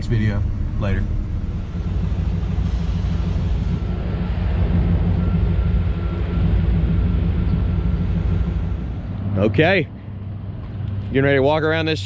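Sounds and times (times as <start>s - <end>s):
engine low rumble: 0.0s - 12.0s.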